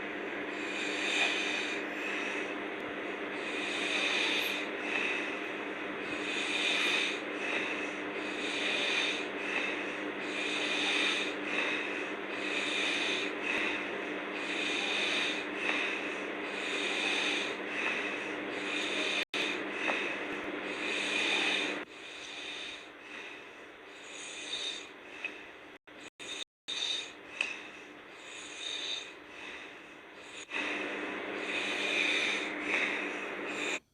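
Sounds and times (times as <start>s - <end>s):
faint steady hum: 0.0s - 33.9s
girl snoring: 0.0s - 33.9s.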